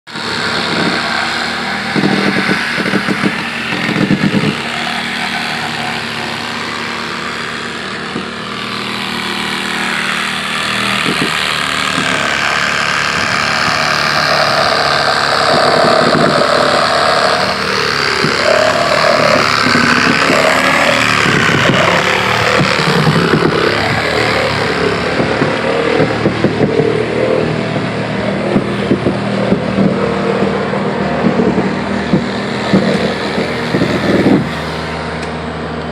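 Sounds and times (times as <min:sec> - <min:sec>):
rapid rattling pulses: 0:00.1 - 0:35.8
heavy machine engine running: 0:00.1 - 0:35.9.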